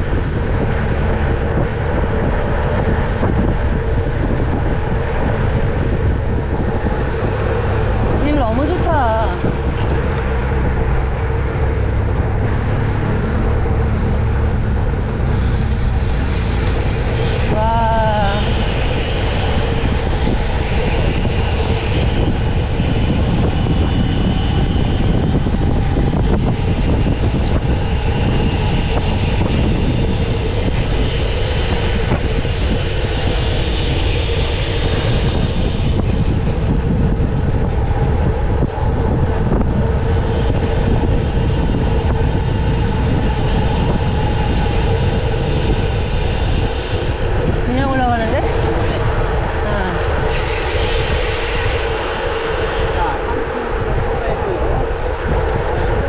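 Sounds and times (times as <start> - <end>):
bicycle tyre noise: 0.0 - 56.0
wind rushing over microphone: 0.0 - 56.0.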